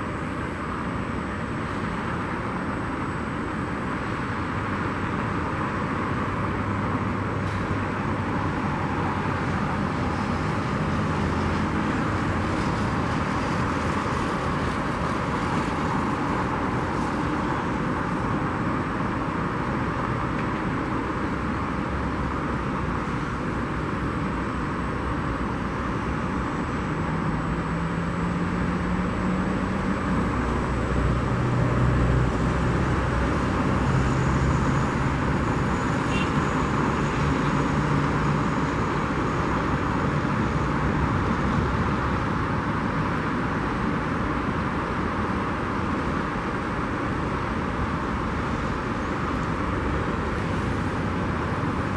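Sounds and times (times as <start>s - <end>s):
distant jet engines taxiing: 0.0s - 51.9s.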